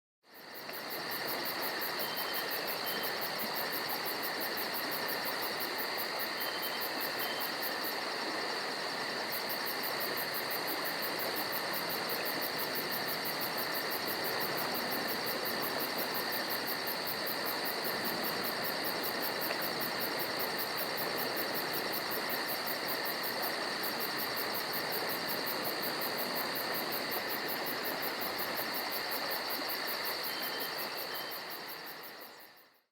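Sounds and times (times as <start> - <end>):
crickets and insects trilling: 0.3 - 32.9.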